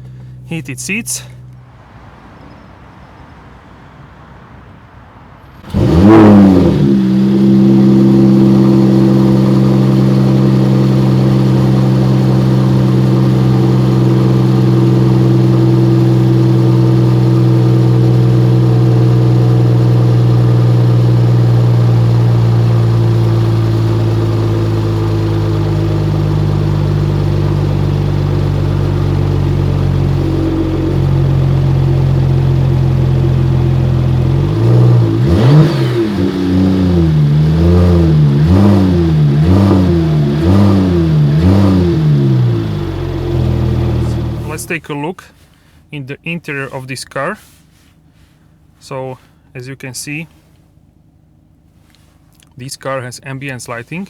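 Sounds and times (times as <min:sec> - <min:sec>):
car engine starting and idling: 0:00.0 - 0:03.1, 0:05.0 - 0:54.0.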